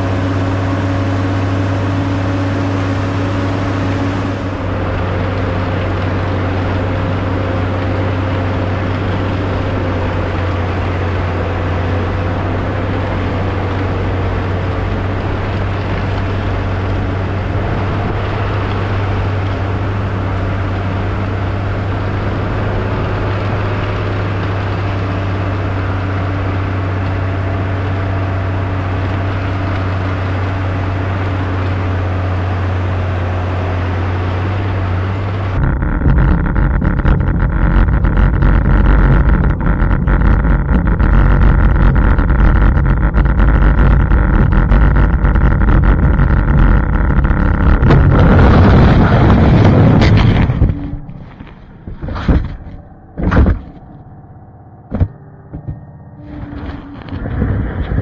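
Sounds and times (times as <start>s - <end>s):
snowcat engine running: 0.0s - 58.0s
thin engine whine: 0.0s - 58.0s.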